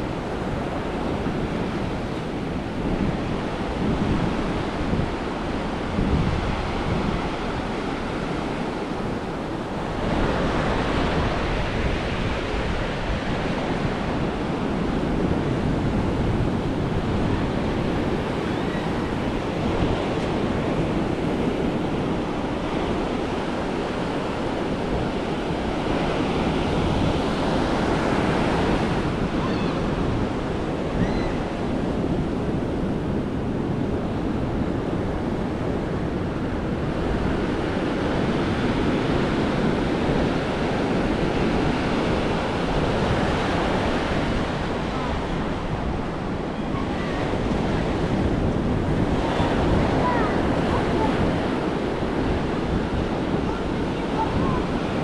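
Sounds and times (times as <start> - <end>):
ocean surf on a sandy beach: 0.0 - 55.0
wind rumbling on microphone: 0.0 - 55.0.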